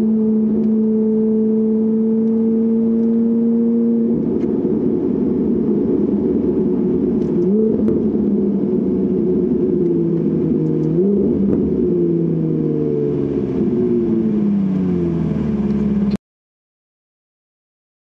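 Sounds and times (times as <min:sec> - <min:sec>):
sports car engine revving: 0:00.0 - 0:16.2.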